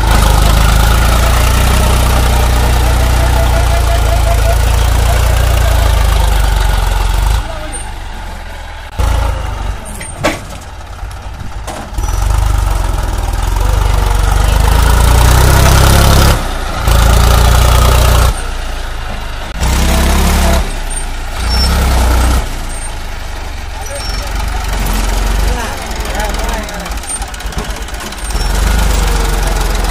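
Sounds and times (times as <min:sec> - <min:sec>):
tractor diesel engines running hard: 0:00.0 - 0:29.9.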